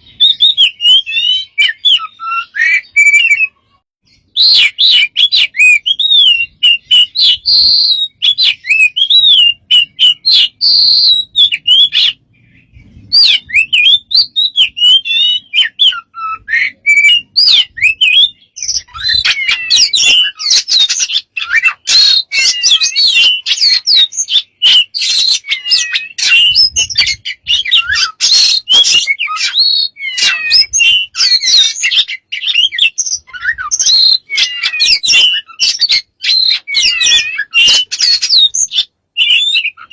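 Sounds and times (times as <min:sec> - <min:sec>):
pet bird chirping and squawking: 0:00.1 - 0:39.9.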